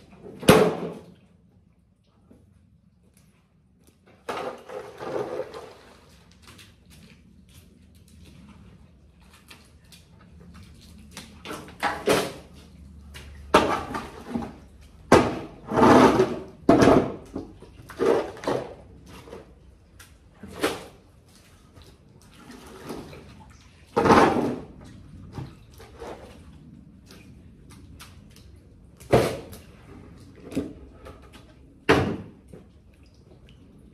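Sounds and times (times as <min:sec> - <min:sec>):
shovel scraping wet muck on concrete: 0:04.1 - 0:31.7.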